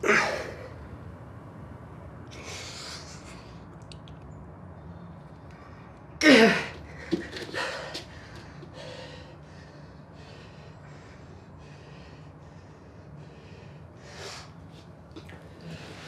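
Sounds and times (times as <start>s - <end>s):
man breathing heavily: 0.0s - 1.0s, 2.3s - 3.7s, 5.5s - 16.0s.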